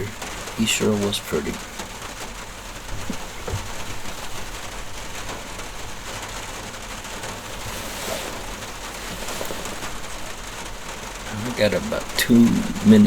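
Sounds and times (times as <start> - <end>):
rain pattering on a roof: 0.0 - 13.0.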